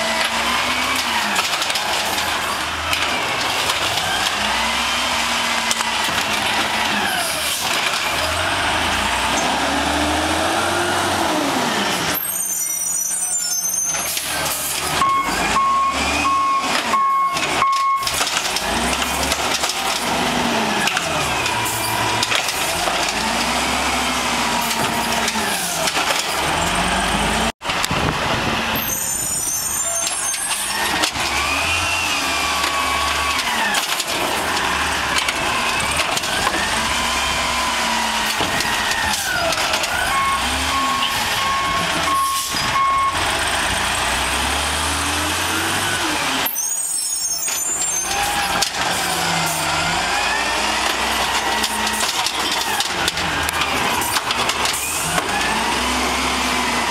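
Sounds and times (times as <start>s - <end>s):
garbage truck engine revving: 0.0s - 12.6s, 13.2s - 56.9s.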